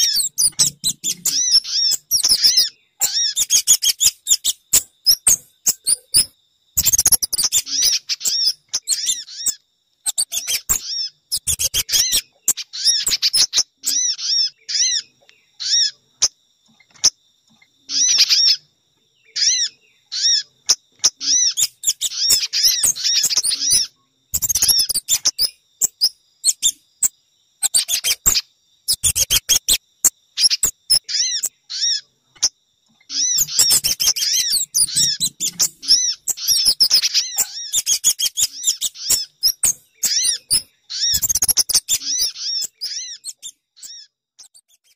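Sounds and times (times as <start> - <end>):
songbird chirps and twitters: 0.0 - 44.9.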